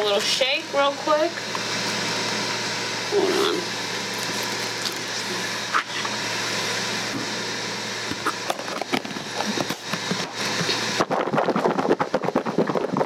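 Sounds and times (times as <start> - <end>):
appliance fan whirring: 0.0 - 13.0.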